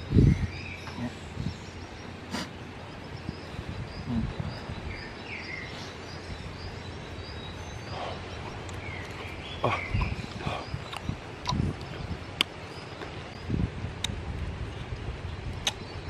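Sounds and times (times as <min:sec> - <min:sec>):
bird chirping: 0:00.0 - 0:13.6
outdoor background noise: 0:00.0 - 0:16.0.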